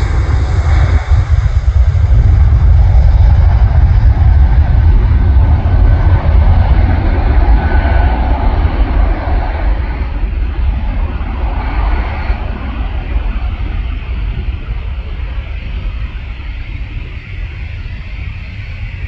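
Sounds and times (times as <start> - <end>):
jet airliner engines rumbling: 0.0 - 19.0.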